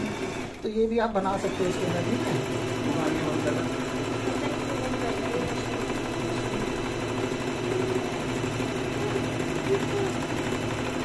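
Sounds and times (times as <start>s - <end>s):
electric sewing machine running: 0.0s - 11.0s.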